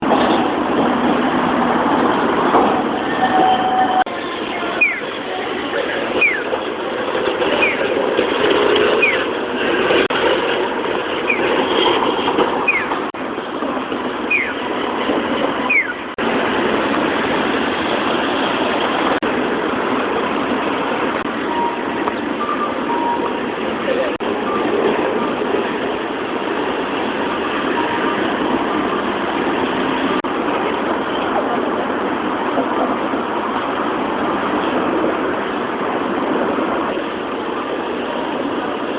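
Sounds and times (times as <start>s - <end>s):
city street traffic: 0.0s - 38.9s.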